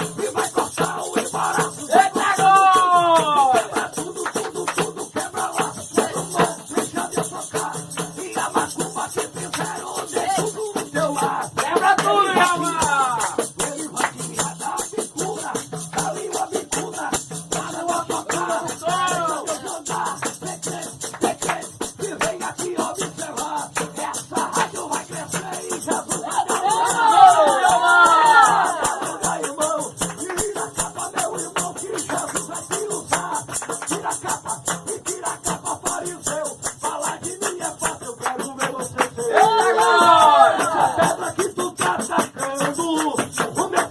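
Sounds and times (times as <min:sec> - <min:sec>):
hand percussion rattle: 0:00.0 - 0:43.9
lively worship music: 0:00.0 - 0:43.9
person singing: 0:00.0 - 0:43.9
tambourine shaken and struck: 0:00.0 - 0:43.9.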